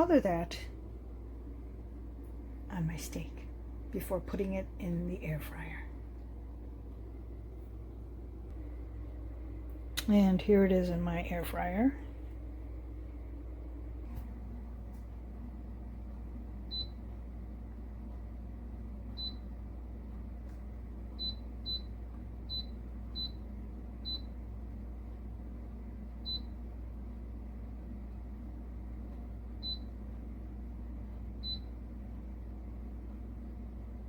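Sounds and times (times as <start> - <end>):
air fryer humming: 0.0 - 34.0.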